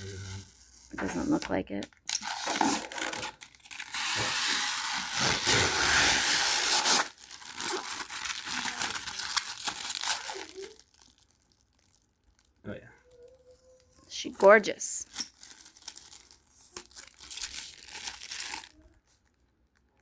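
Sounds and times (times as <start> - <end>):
plastic film crinkling: 0.0 - 20.0
plastic film peeling: 0.0 - 20.0.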